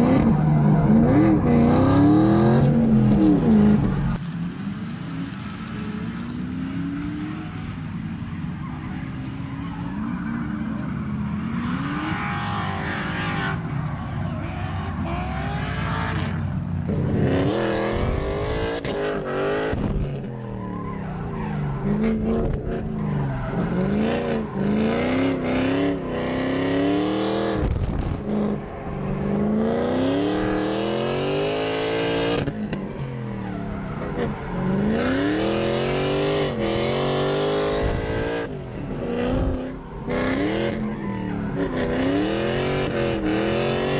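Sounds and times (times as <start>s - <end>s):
car engines revving: 0.0s - 43.9s
tyres squealing and skidding: 0.0s - 43.9s.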